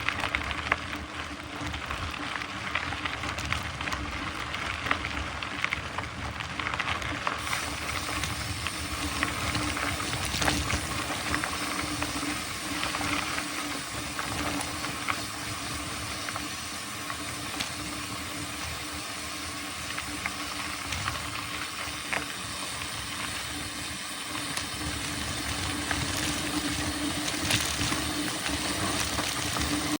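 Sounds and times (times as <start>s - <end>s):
bike tyres hissing on dirt: 0.0s - 30.0s.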